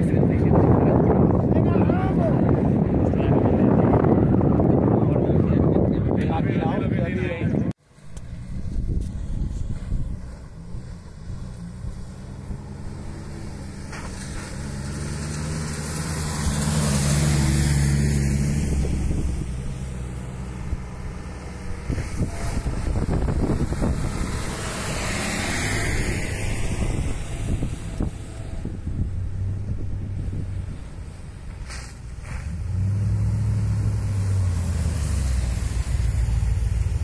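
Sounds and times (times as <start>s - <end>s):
off-road vehicle engines: 0.0s - 37.0s.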